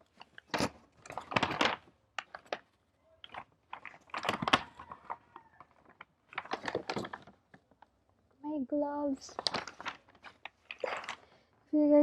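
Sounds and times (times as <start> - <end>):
plastic packaging crinkling: 0.0 - 7.9, 9.3 - 11.4.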